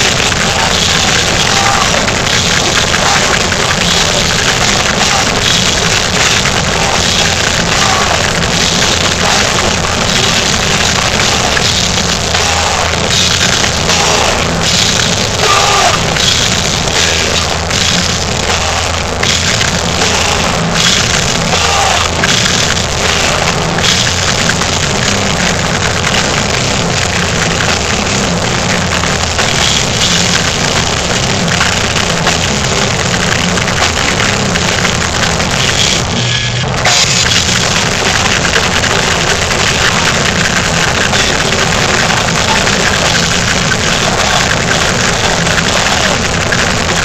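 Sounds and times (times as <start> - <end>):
heavy metal band playing live: 0.0 - 47.0.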